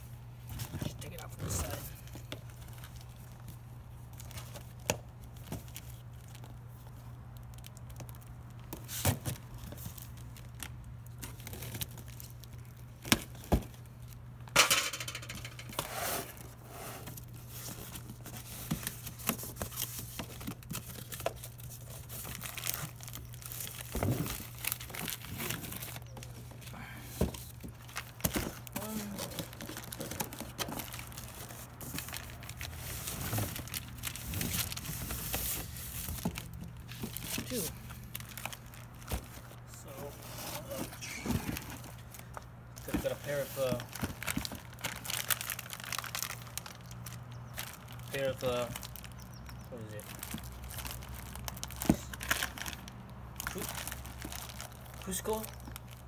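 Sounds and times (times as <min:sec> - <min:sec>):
cardboard and paper crinkling: 0:00.4 - 0:14.2, 0:15.6 - 0:49.2, 0:49.8 - 0:56.0.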